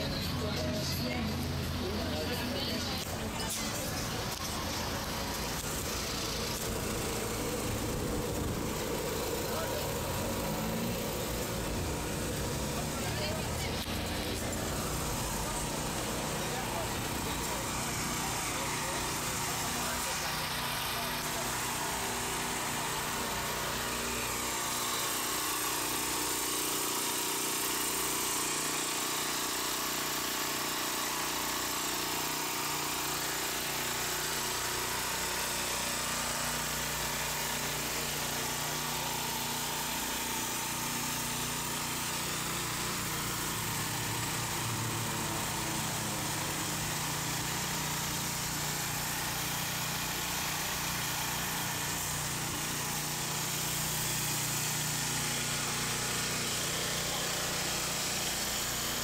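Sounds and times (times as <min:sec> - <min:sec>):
portable generators running: 0:00.0 - 0:59.0.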